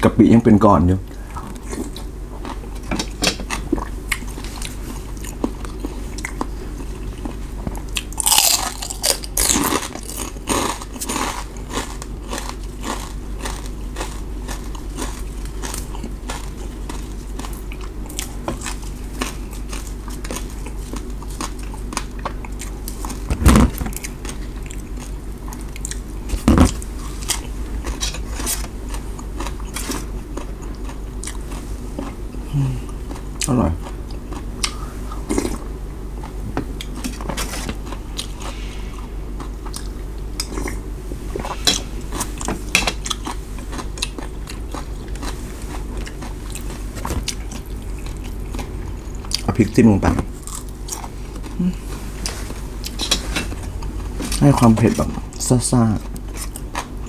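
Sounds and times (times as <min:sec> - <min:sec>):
person chewing noodles: 0:01.1 - 0:57.0.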